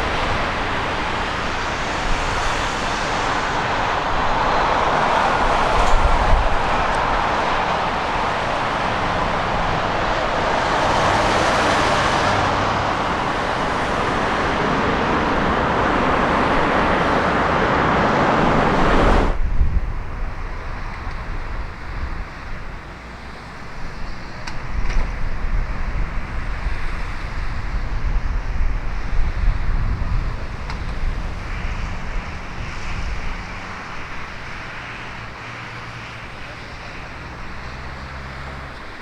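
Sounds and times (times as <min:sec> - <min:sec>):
wind buffeting microphone: 0:00.0 - 0:23.0, 0:23.6 - 0:38.0
jet engines roaring: 0:00.0 - 0:39.0.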